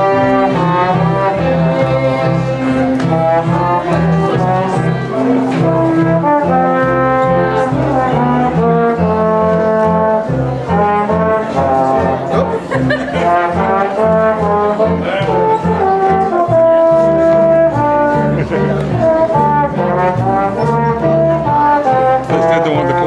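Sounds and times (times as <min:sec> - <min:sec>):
cello and double bass beat: 0:00.0 - 0:23.0
small ensemble playing a waltz: 0:00.0 - 0:23.0
trombone melody: 0:00.0 - 0:23.0.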